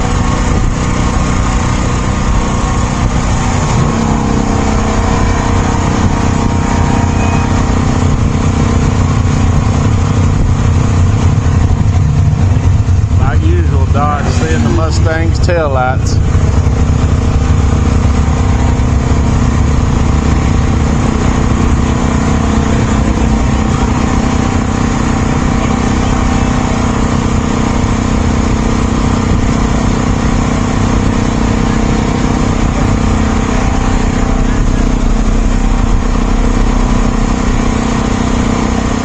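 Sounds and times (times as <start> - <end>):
vehicle engine drone and road noise: 0.0 - 39.0.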